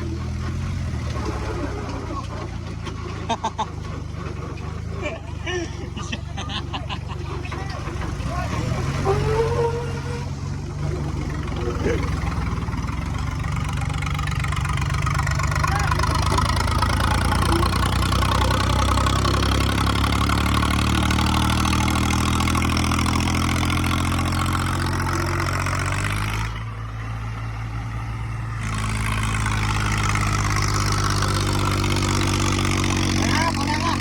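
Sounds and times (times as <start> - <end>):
tractor diesel engines running: 0.0 - 34.0.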